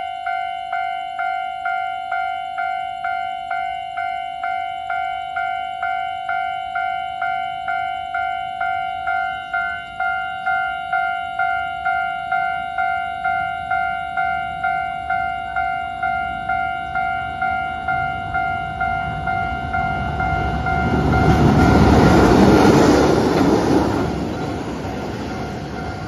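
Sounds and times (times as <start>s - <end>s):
bell-like ringing strikes: 0.0s - 21.8s.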